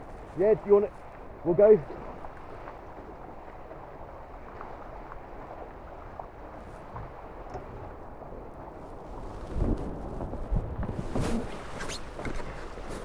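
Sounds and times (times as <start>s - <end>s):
water rushing along boat hulls: 0.0s - 13.0s.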